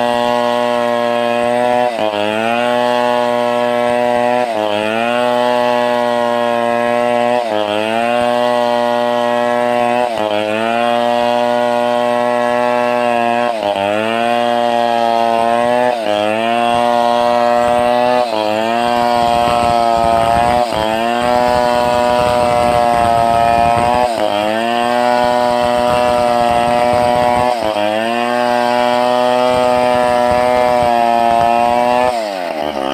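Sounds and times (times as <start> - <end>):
chainsaw cutting timber: 0.0 - 32.9.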